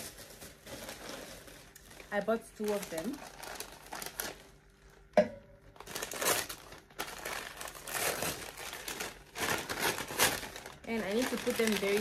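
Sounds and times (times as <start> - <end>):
packaging rustling and crumpling: 0.0 - 5.1, 5.7 - 12.0.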